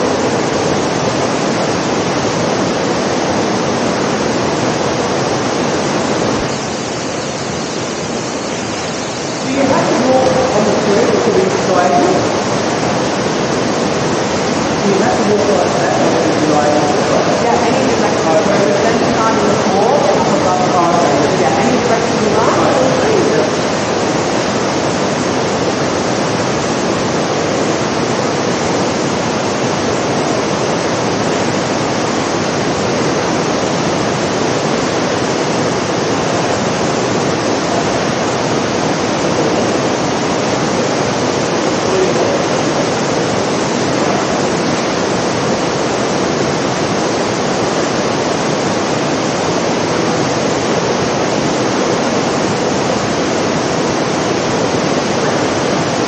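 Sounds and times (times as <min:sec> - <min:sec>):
heavy rain downpour: 0:00.0 - 0:56.0.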